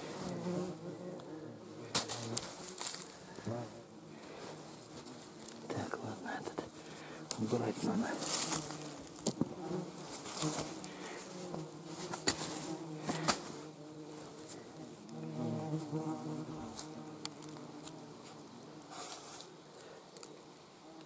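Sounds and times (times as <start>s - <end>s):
flies buzzing: 0.0s - 21.0s.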